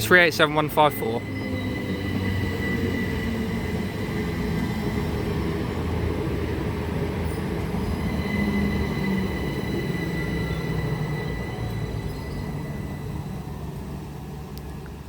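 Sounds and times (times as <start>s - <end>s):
electric train whine: 0.0s - 15.0s
train rumble: 0.0s - 15.0s.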